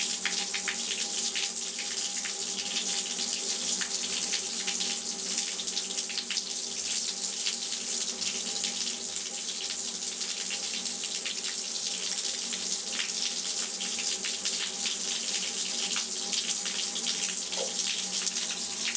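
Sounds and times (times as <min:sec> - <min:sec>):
shower water running: 0:00.0 - 0:18.9.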